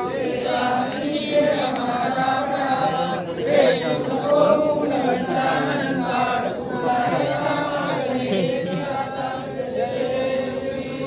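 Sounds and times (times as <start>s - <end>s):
crowd chanting a prayer: 0.0s - 11.0s.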